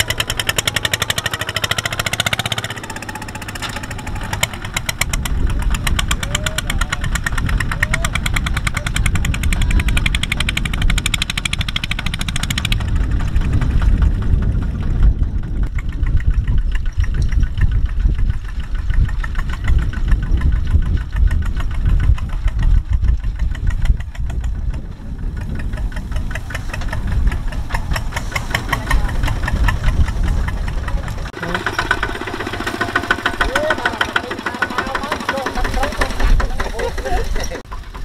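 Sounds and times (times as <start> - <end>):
diesel tractor engine chugging: 0.0 - 38.0.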